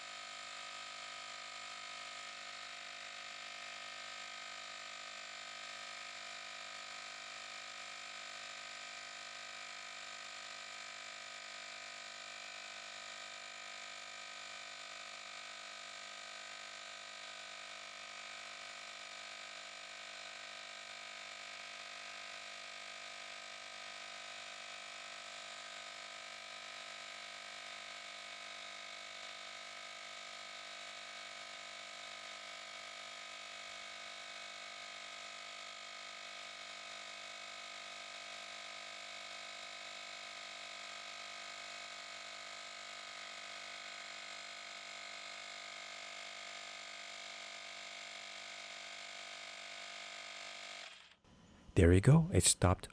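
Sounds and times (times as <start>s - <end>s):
small compressor running: 0.0s - 51.2s.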